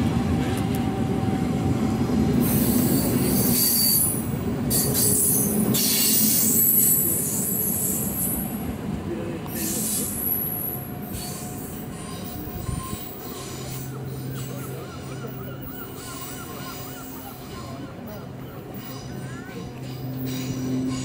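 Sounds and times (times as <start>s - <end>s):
electric train pulling away: 0.0s - 8.8s, 9.5s - 21.0s
train wheel squeal: 2.3s - 8.6s, 9.5s - 21.0s.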